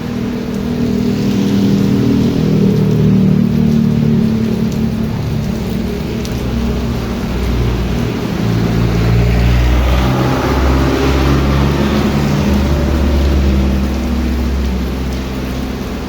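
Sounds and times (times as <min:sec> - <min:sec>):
heavy rain: 0:00.0 - 0:16.0
vehicle engine hum: 0:00.0 - 0:16.0
wind: 0:00.0 - 0:16.0.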